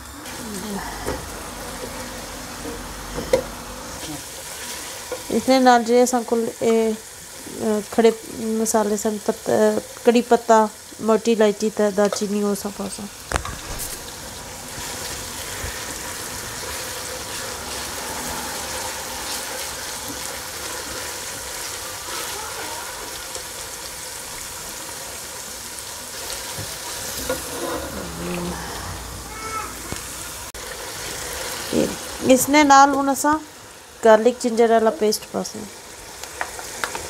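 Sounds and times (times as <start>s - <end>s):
spices sizzling in oil: 0.0s - 37.0s.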